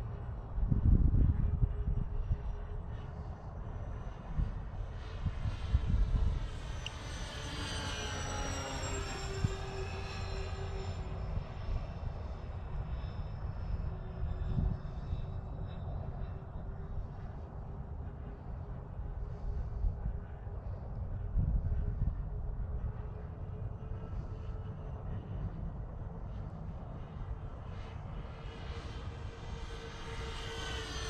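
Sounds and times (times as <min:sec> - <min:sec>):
model plane propellers whining: 0:00.0 - 0:31.0.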